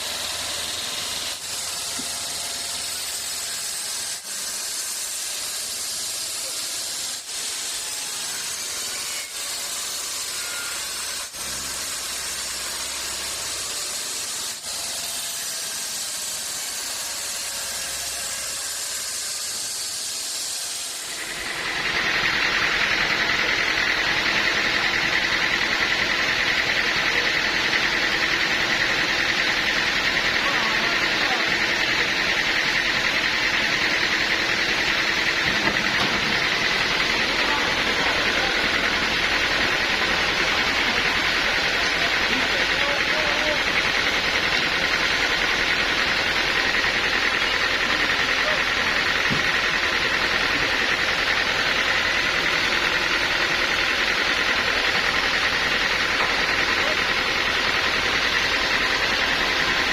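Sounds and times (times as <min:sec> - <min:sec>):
high machine whine: 0:00.0 - 0:59.9
sawmill machinery hissing: 0:00.0 - 0:59.9.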